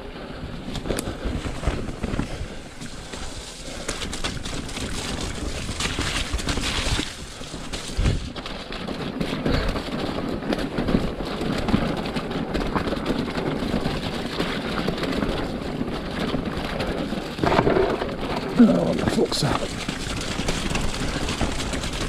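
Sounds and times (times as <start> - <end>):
bike rattling over stones: 0.0 - 22.0.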